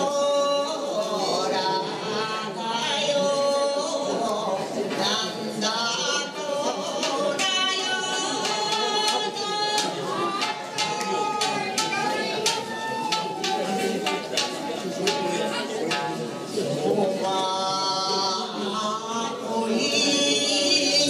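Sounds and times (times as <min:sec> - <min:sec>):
person singing unaccompanied: 0:00.0 - 0:21.0.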